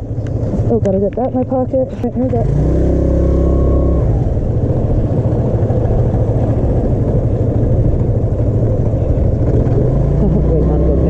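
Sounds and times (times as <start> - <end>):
scooter engine: 0.0 - 11.0
wind noise: 0.0 - 11.0.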